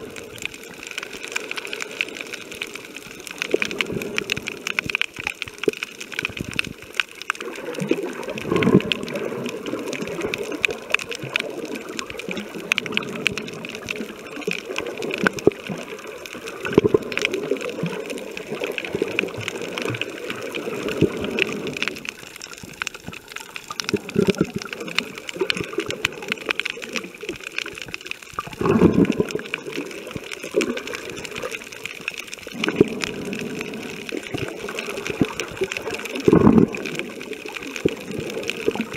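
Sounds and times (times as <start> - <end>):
crackle of small clicks: 0.0 - 38.9
underwater water rushing: 0.0 - 38.9.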